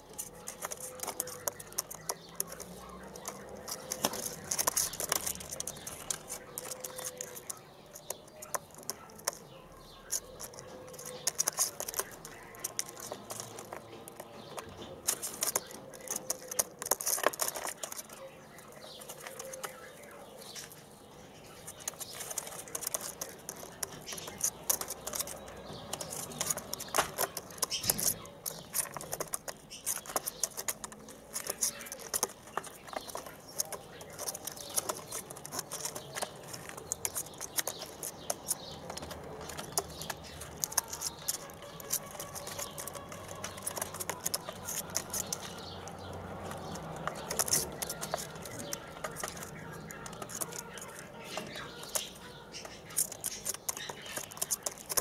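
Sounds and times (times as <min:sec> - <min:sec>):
doves scratching on wire cage: 0:00.0 - 0:55.0.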